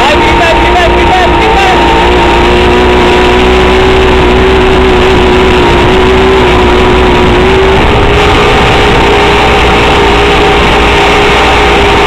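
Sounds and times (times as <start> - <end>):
motorboat engine running: 0.0 - 12.0
rushing boat wake: 0.0 - 12.0.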